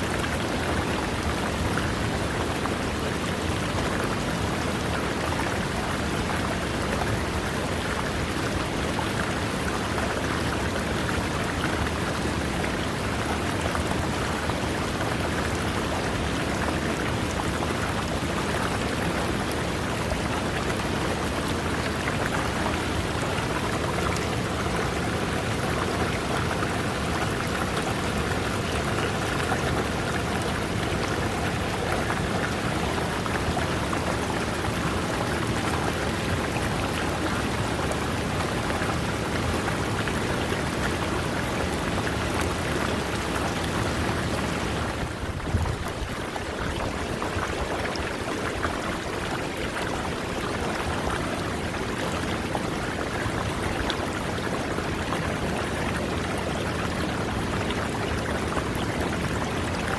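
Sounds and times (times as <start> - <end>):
river water running over rocks: 0.0 - 59.9.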